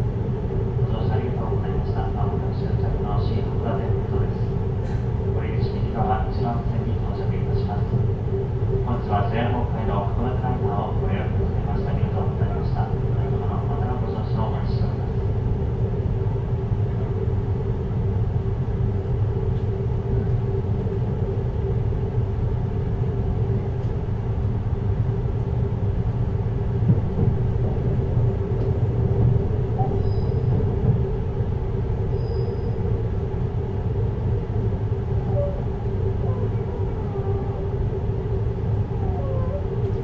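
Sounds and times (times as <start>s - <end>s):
constant hum: 0.0s - 40.0s
train wheels rumbling on rail: 0.0s - 40.0s.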